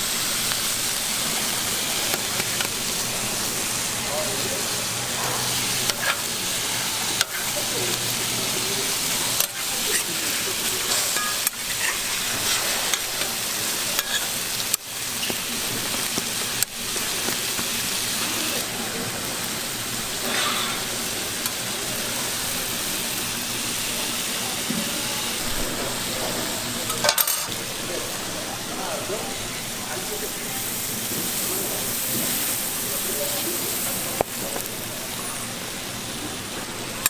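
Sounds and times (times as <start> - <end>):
food sizzling on a griddle: 0.0 - 37.0.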